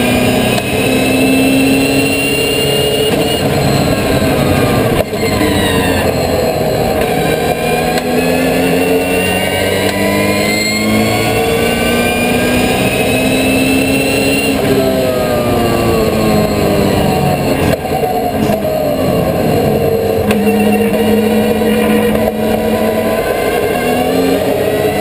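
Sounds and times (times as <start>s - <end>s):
turbocharged car engine running hard: 0.0s - 25.0s.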